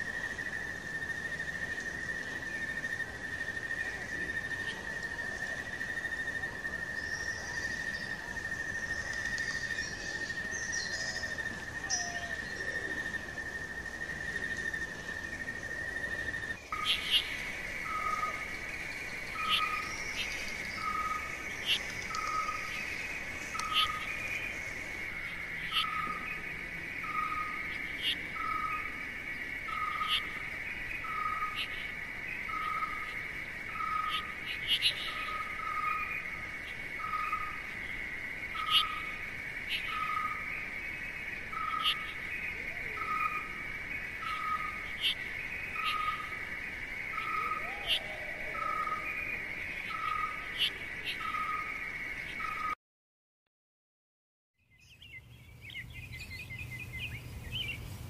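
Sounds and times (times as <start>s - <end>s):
high insect trill: 0.0s - 52.8s.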